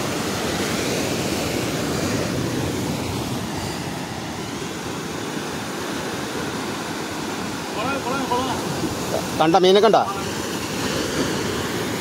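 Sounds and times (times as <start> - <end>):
sea surf against seawall: 0.0 - 12.0.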